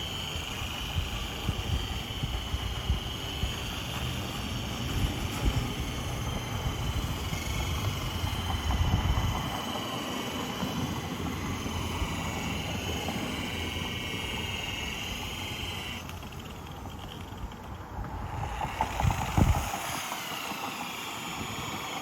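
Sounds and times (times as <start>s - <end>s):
buffing wheel rumble on metal: 0.0s - 22.0s
power polisher motor whine: 0.0s - 22.0s.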